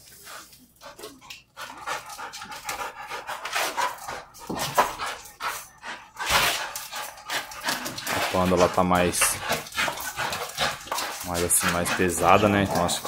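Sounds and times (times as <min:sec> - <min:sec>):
dogs panting hard: 0:00.0 - 0:13.0
dogs tugging at a tyre: 0:02.0 - 0:13.0.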